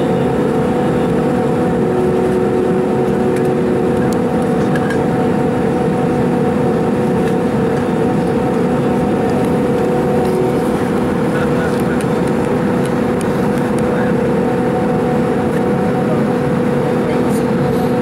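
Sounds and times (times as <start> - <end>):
aircraft engine drone: 0.0 - 18.0
constant hum tones: 0.0 - 18.0.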